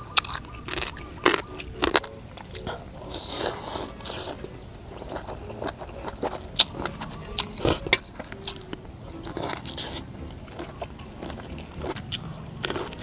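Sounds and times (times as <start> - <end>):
biting into prawn: 0.0 - 13.0
chewing: 0.0 - 13.0
insects chirring: 0.0 - 13.0.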